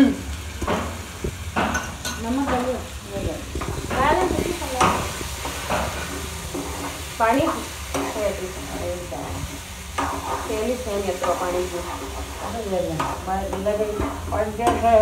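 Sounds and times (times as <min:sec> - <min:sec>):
vegetables sizzling in oil: 0:00.0 - 0:15.0
spoon stirring in pan: 0:00.4 - 0:15.0.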